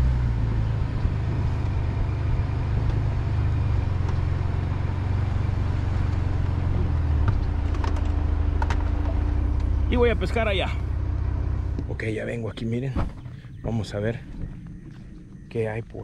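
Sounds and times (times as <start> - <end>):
road noise: 0.0 - 16.0
truck engine rumble: 0.0 - 16.0.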